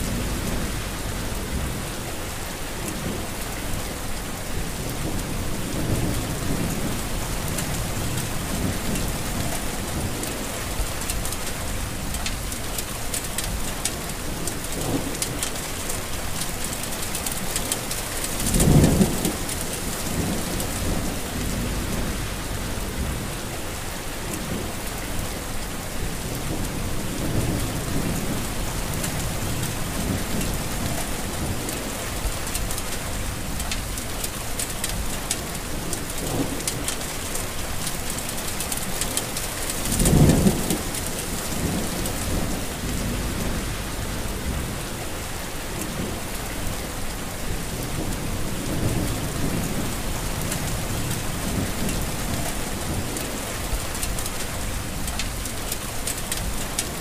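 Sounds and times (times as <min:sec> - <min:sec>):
heavy rain falling: 0:00.0 - 0:57.0
low thunder rumbles: 0:00.0 - 0:57.0.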